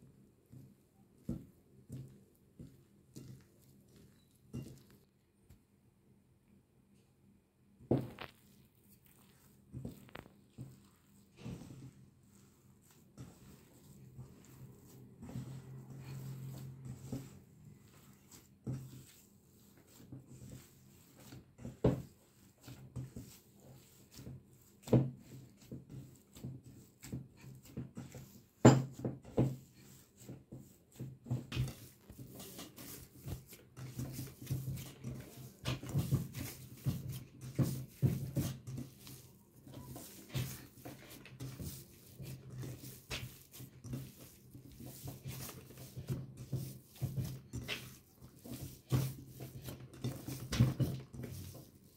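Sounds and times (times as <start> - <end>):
hands squishing dough: 0.0 - 5.7, 7.8 - 51.9.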